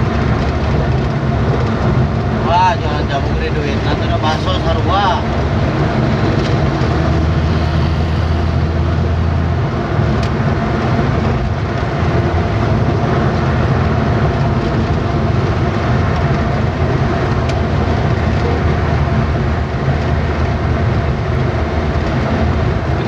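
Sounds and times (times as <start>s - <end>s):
engine hum: 0.0s - 23.0s
tyres rumbling on road: 0.0s - 23.0s.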